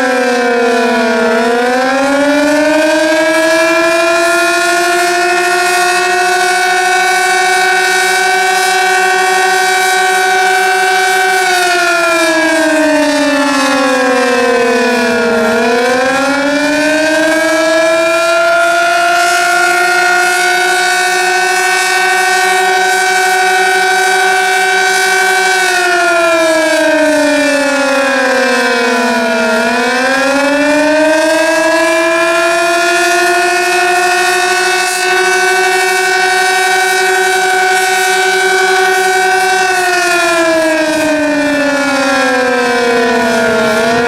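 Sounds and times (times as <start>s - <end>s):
outdoor warning siren wailing: 0.0s - 44.0s.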